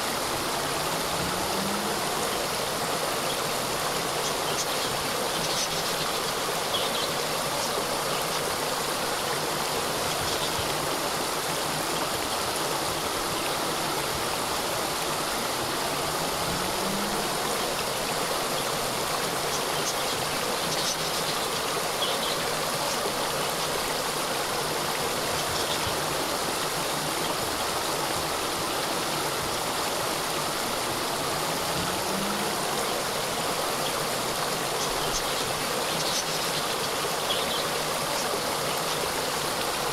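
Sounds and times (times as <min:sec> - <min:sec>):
small waterfall flowing: 0:00.0 - 0:39.9.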